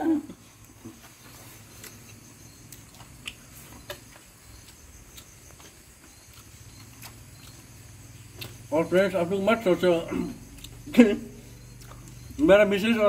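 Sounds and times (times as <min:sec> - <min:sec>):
insects chirring: 0:00.0 - 0:13.0
person chewing: 0:00.4 - 0:08.7, 0:10.2 - 0:12.5.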